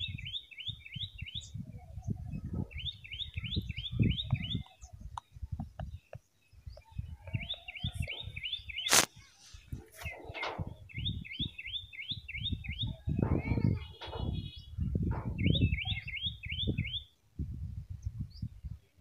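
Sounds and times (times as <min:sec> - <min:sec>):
small bird chirping: 0:00.0 - 0:17.2.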